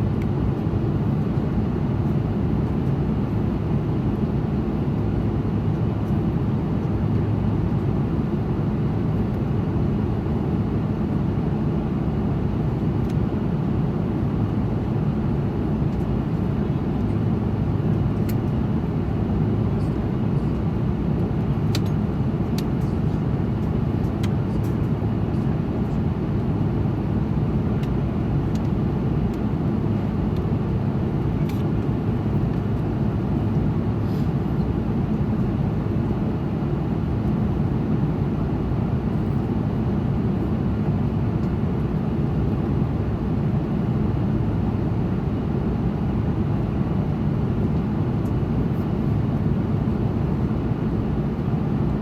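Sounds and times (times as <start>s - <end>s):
airliner cabin drone: 0.0s - 52.0s.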